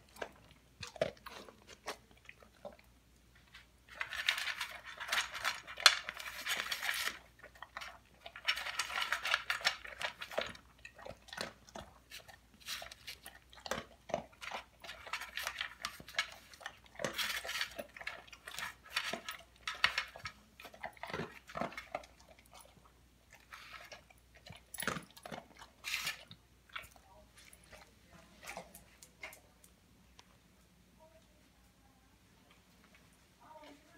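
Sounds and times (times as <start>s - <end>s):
dog crunching and chewing food: 0.0s - 29.8s.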